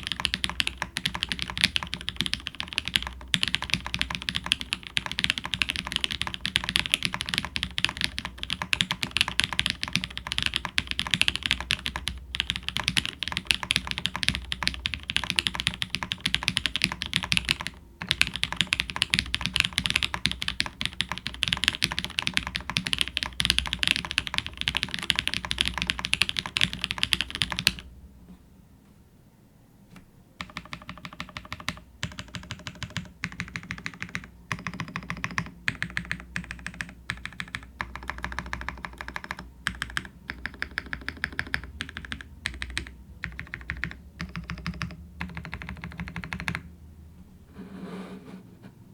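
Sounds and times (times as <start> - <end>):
mechanical keyboard typing: 0.0 - 27.8, 30.4 - 46.7.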